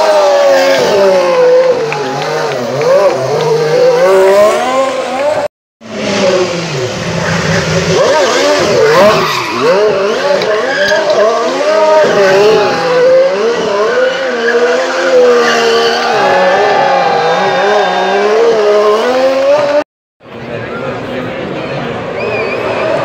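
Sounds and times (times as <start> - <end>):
race car engine revving: 0.0 - 19.8.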